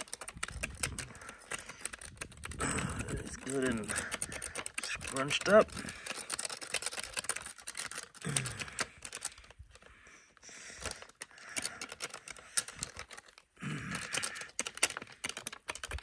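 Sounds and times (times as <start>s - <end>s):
wire scraping and clicking on bone: 0.0s - 16.0s.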